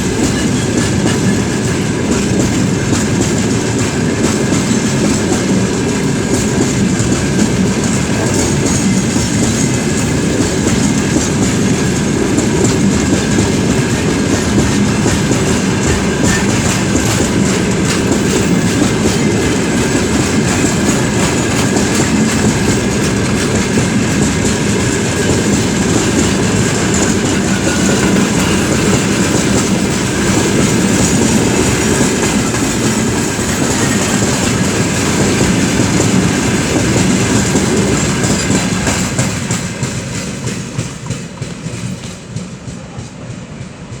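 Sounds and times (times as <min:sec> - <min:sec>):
wheels clattering over rail joints: 0:00.0 - 0:42.8
freight train rumbling: 0:00.0 - 0:44.0.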